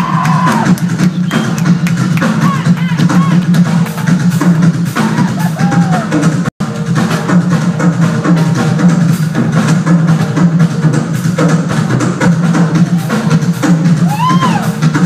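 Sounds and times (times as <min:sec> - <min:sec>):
drum kit solo: 0:00.0 - 0:15.0.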